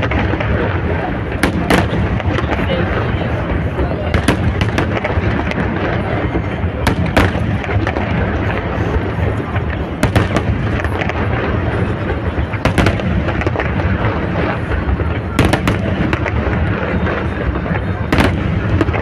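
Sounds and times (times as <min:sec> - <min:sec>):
sharp firework cracks: 0:00.0 - 0:19.0.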